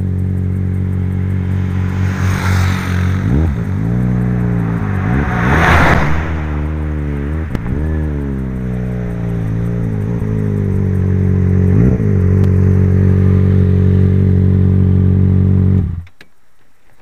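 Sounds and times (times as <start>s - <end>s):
motorcycle engine revving: 0.0s - 16.1s.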